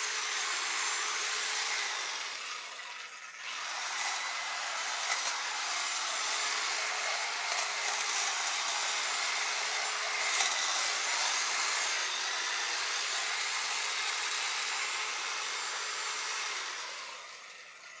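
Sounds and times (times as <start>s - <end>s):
electric hedge clippers running: 0.0s - 18.0s.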